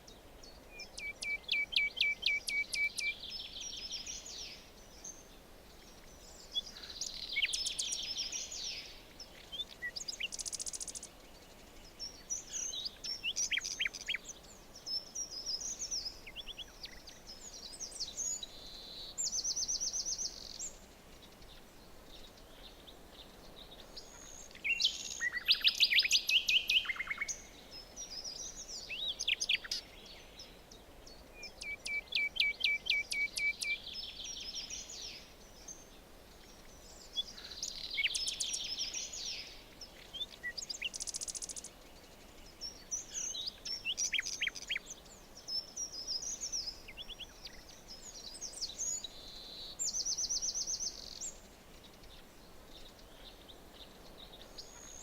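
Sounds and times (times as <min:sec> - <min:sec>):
faint forest ambience hiss: 0:00.0 - 0:55.0
songbirds singing: 0:00.0 - 0:55.0.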